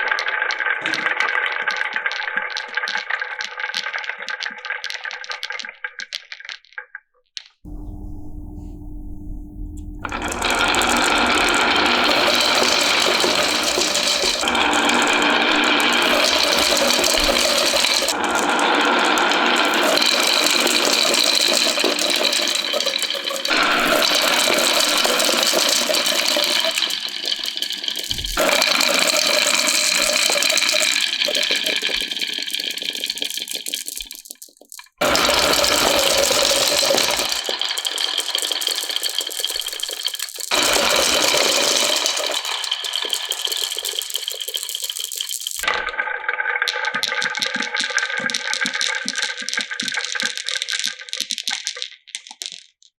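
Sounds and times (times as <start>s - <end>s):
marbles rolling and rattling: 0.1s - 6.9s, 10.1s - 52.9s.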